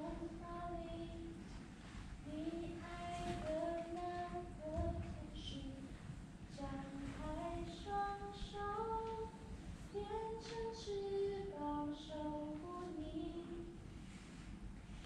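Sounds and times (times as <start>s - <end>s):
woman singing slow melody: 0.0s - 1.4s, 2.2s - 13.8s.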